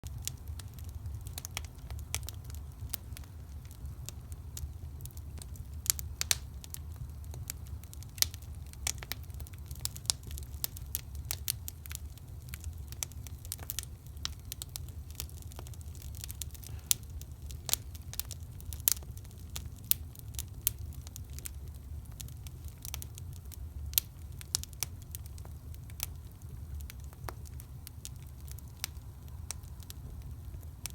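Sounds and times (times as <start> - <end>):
firewood crackling and popping: 0.0 - 30.9
low steady rumble: 0.0 - 30.9.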